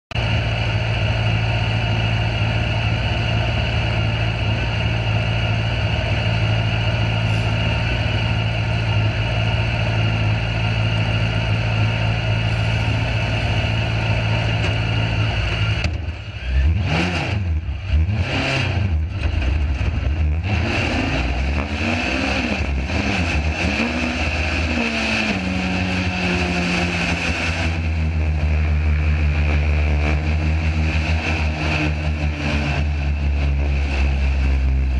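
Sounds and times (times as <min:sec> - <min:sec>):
engine idling and revving: 0:00.0 - 0:34.9.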